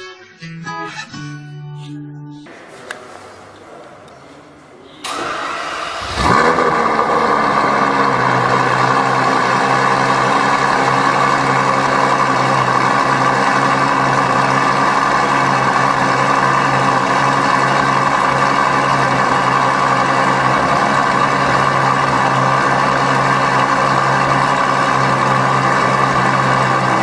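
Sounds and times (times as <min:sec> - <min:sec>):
car engine starting and idling: 0:05.0 - 0:27.0.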